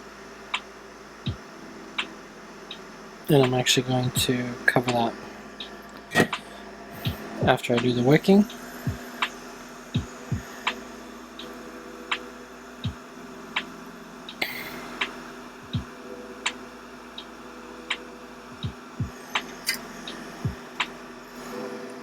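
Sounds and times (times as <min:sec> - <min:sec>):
steady low hum: 0:00.0 - 0:22.0
regular ticking: 0:02.7 - 0:22.0.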